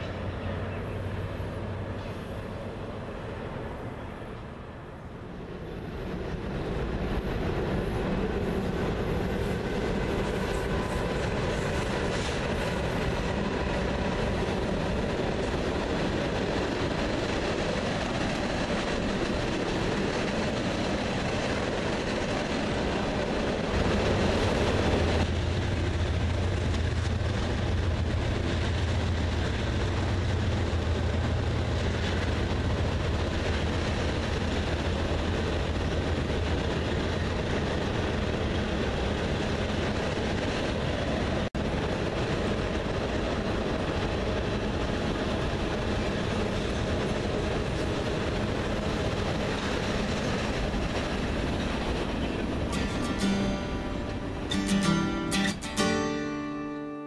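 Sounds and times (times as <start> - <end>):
diesel locomotive drone: 0.0 - 57.0
freight train rumbling on bridge: 0.0 - 57.0.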